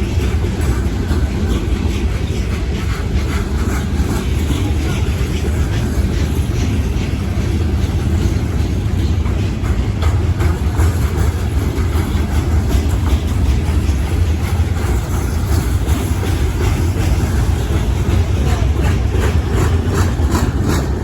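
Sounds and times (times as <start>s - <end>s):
freight train cars rumbling: 0.0s - 21.0s
train wheel clicks: 0.0s - 21.0s.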